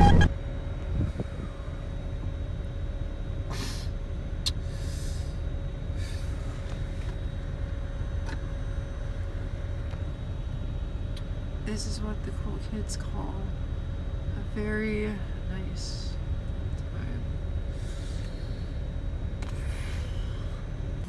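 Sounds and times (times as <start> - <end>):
faint constant hum: 0.0 - 21.0.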